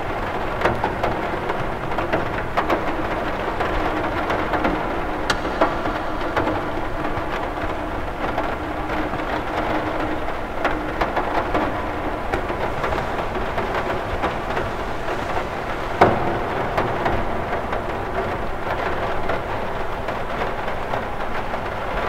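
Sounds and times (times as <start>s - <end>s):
rain hiss: 0.0s - 22.0s
raindrops tapping on glass: 0.0s - 22.0s.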